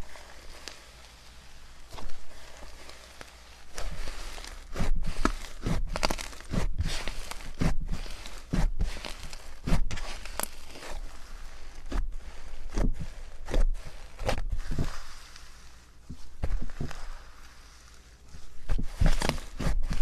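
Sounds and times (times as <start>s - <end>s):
slime squishing: 0.0s - 20.0s.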